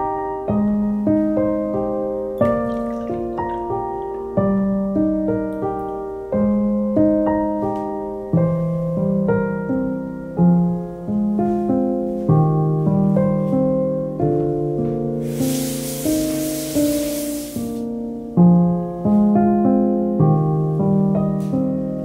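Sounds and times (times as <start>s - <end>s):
slow gentle piano piece: 0.0s - 22.0s.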